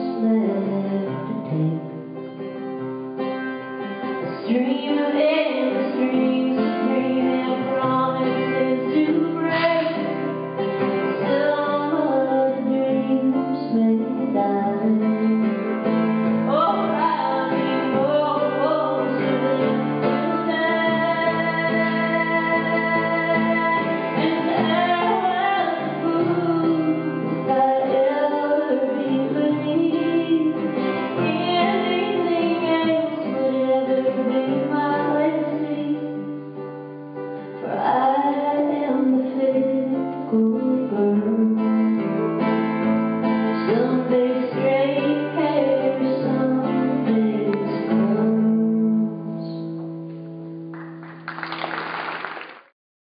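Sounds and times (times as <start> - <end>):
woman singing: 0.0 - 2.0, 4.0 - 36.4, 37.5 - 42.2, 43.4 - 49.8
plucked string instrument: 0.0 - 50.8.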